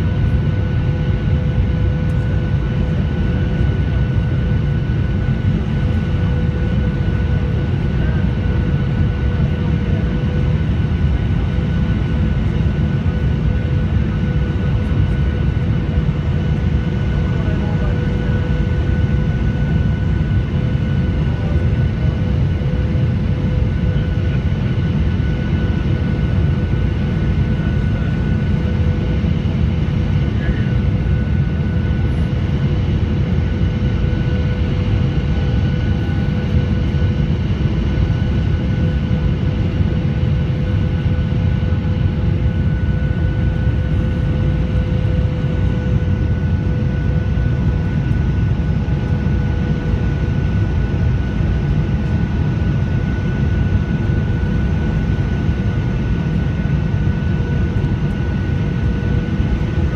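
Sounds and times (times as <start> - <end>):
aircraft cabin roar: 0.0 - 59.9.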